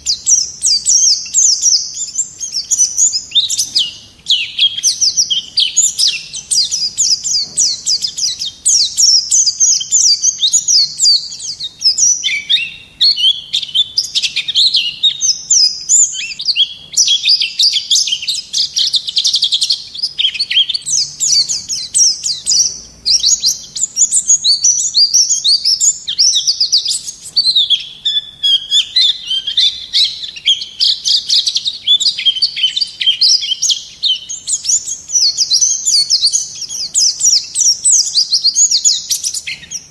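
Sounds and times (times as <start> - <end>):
bird twittering with high chirps: 0.0 - 39.9.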